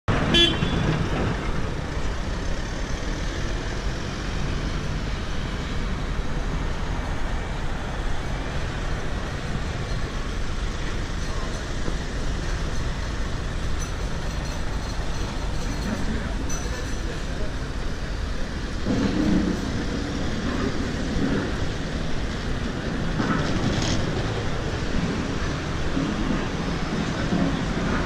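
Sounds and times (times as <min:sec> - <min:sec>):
road traffic rumble: 0:00.1 - 0:28.0.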